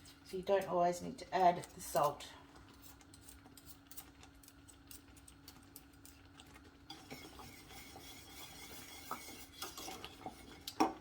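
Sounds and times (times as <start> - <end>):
spoon stirring in a pot: 0.0 - 11.0.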